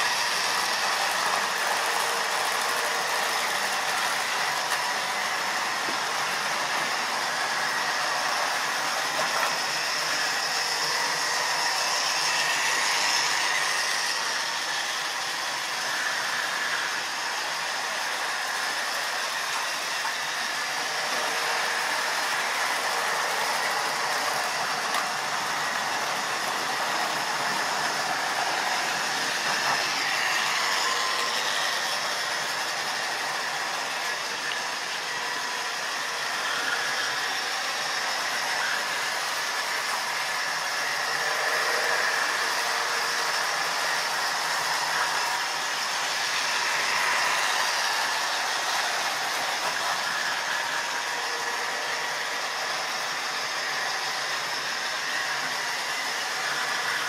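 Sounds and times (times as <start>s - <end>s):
electric motor whirr: 0.0s - 57.0s
model train wheels on rails: 0.0s - 57.0s.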